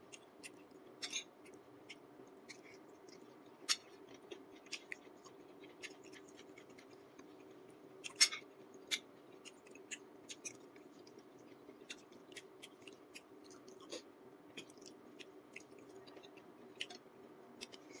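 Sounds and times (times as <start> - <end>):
faint steady hum: 0.0 - 18.0
chewing and mouth clicks: 0.1 - 17.0, 17.6 - 18.0.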